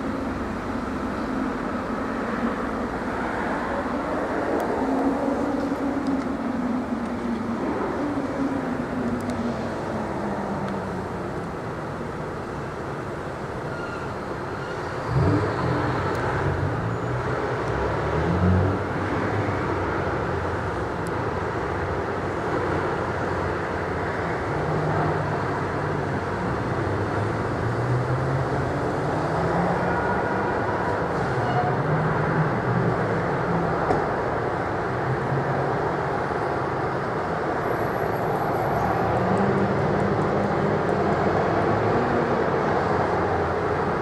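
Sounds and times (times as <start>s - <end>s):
vehicle engine roar: 0.0s - 44.0s.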